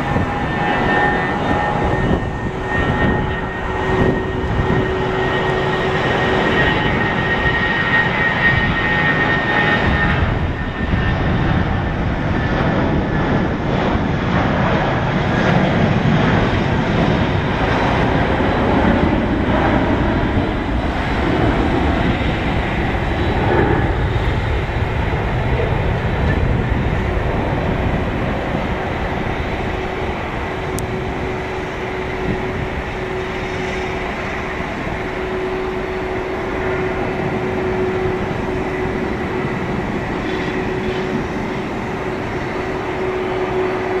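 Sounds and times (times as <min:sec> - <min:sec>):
jet taking off: 0:00.0 - 0:44.0.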